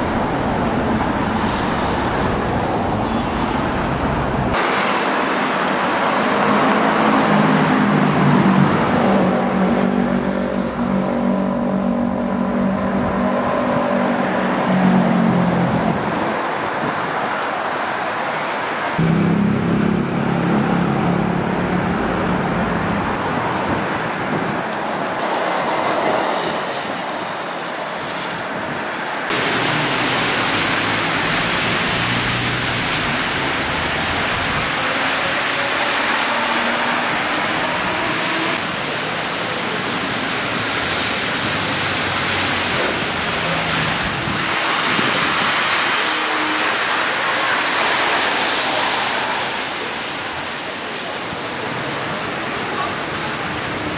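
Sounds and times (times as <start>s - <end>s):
tyres hissing on wet road: 0.0s - 19.1s, 22.2s - 53.9s
cars and buses passing: 0.0s - 53.9s.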